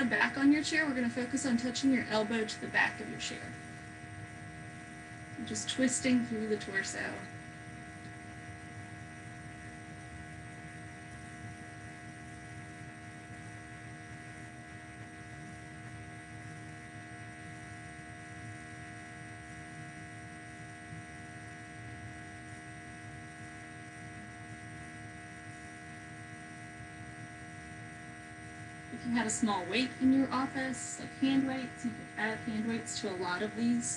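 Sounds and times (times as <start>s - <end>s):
steady electrical hum: 0.0s - 33.9s.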